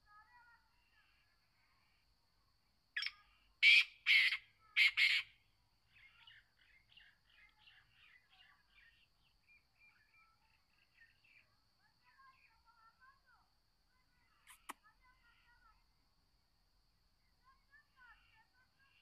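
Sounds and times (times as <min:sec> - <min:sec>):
faint bird chirps: 0:00.0 - 0:15.9, 0:17.1 - 0:19.0.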